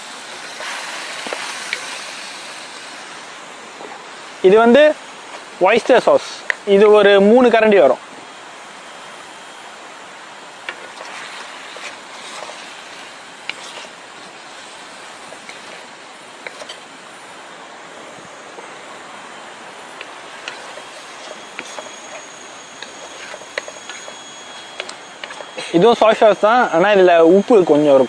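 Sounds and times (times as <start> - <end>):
food sizzling in a pan: 0.0 - 3.5, 8.4 - 28.0.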